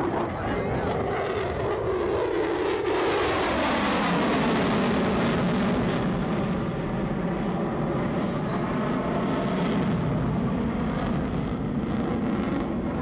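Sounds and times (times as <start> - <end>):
jet fighter roaring past: 0.0 - 13.0.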